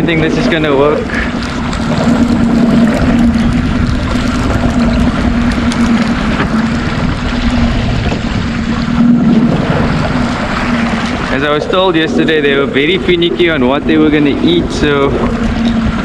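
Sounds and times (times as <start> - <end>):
boat motor humming: 0.0 - 16.0
water noise: 0.0 - 16.0
wind: 0.0 - 16.0.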